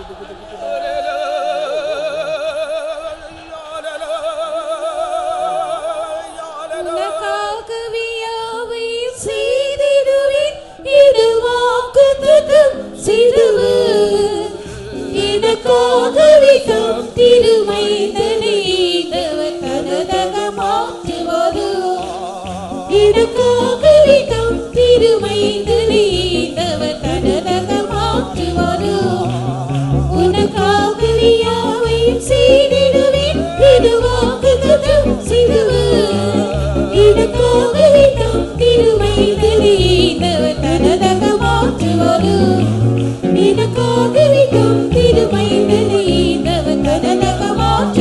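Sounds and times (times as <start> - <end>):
person singing with vibrato: 1.0 - 48.0.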